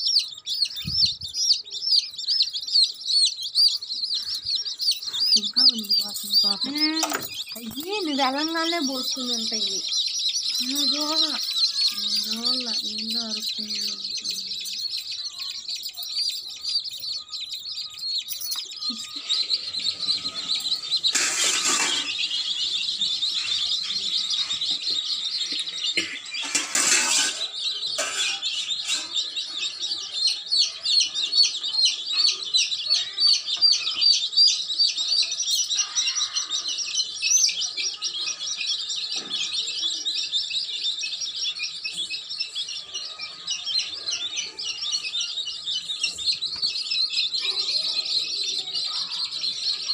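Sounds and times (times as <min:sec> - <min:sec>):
baby chicks peeping: 0:00.0 - 0:49.9.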